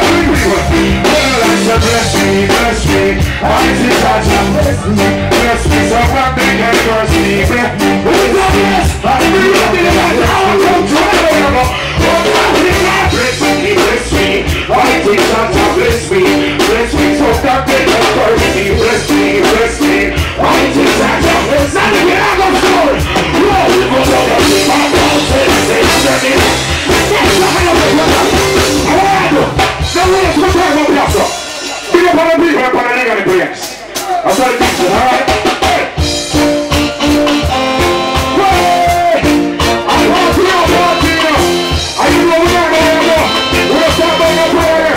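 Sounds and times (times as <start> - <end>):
man singing into a microphone: 0.0 - 36.1, 37.4 - 44.9
reggae band playing: 0.0 - 44.9.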